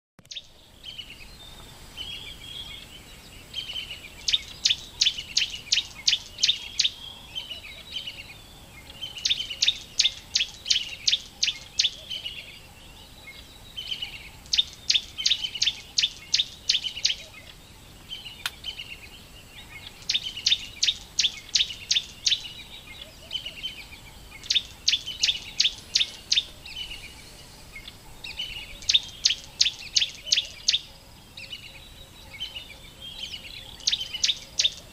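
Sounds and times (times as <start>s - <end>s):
bird singing: 0.2s - 34.9s.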